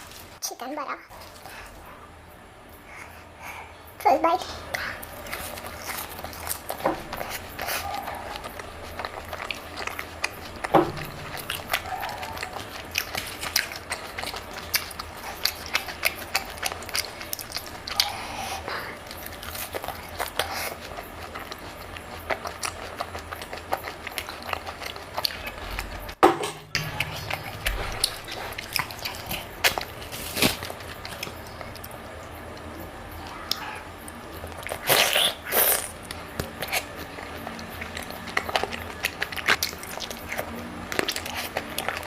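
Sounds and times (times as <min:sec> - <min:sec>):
chewing and biting crunches: 0:04.7 - 0:26.2, 0:26.8 - 0:42.0.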